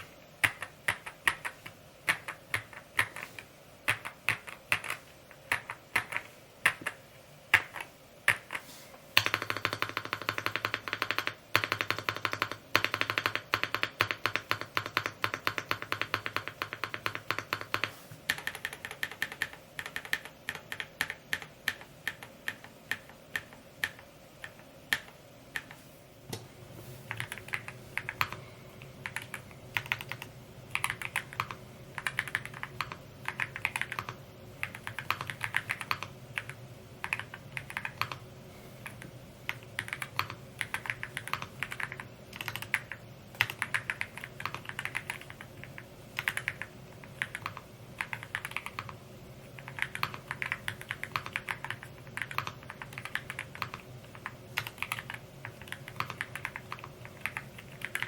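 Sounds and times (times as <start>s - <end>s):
mechanical keyboard typing: 0.0s - 8.6s, 9.2s - 25.8s, 27.1s - 28.4s, 29.0s - 38.2s, 38.8s - 58.0s.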